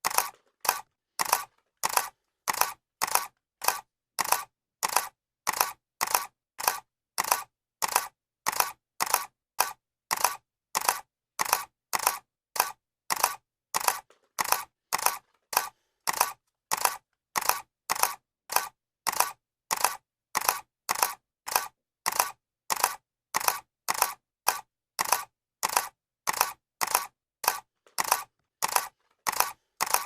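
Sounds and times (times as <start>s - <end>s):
camera shutter clicking: 0.0s - 30.0s.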